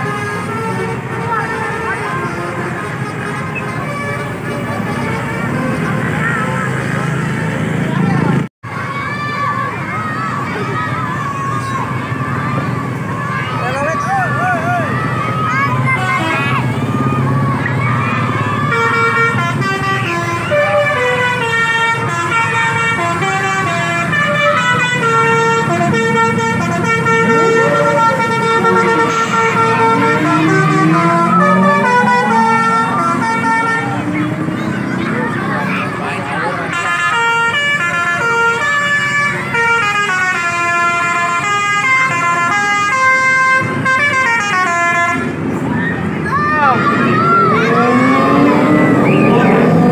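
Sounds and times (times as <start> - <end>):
multi-tone bus horn tune: 0.0 - 7.6, 15.8 - 45.5, 47.0 - 49.9.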